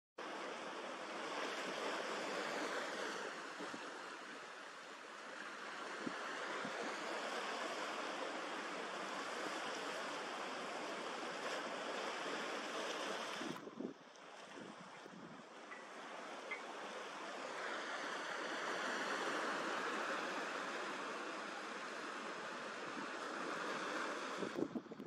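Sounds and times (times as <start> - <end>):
choppy sea water lapping: 0.2 - 25.0
wind: 0.2 - 25.0.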